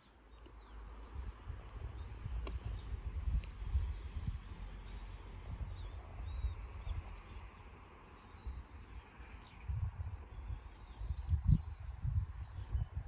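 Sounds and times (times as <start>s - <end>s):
wind buffeting microphone: 0.8s - 13.0s.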